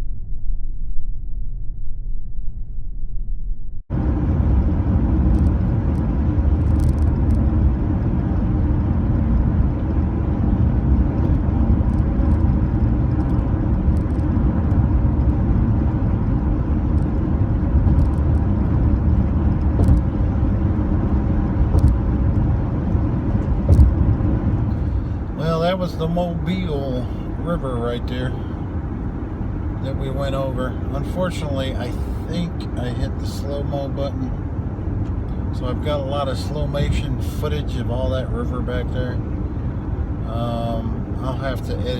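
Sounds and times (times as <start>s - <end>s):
car road and engine noise: 3.9s - 41.9s.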